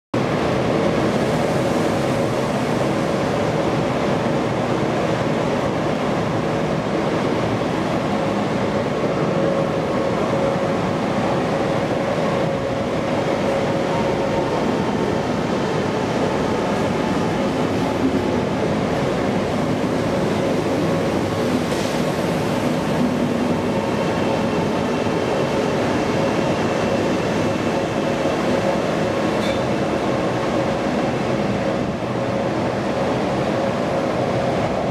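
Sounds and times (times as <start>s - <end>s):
electric train rumbling past: 0.2s - 34.9s
train whine: 0.2s - 34.9s.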